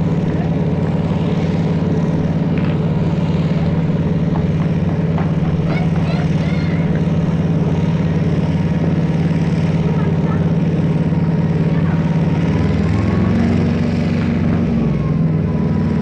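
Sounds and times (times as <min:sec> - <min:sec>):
threshing machine droning: 0:00.0 - 0:16.0.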